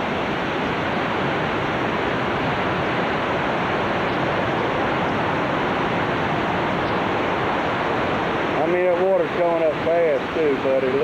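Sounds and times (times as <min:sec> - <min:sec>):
hurricane wind rushing: 0:00.0 - 0:11.0.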